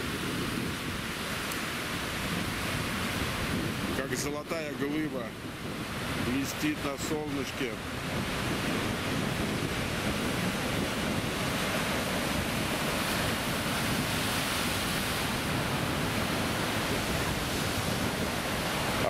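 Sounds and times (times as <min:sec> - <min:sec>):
surf breaking over rocks: 0:00.0 - 0:19.0.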